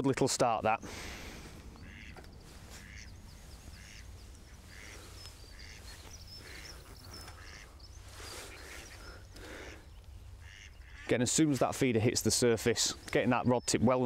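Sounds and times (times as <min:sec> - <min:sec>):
small birds twittering: 0:00.4 - 0:14.0
ducks quacking: 0:00.6 - 0:14.0.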